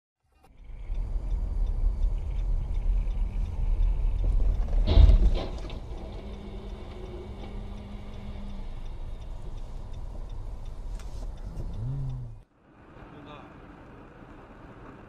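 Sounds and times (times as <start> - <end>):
road and engine rumble: 0.2 - 15.0.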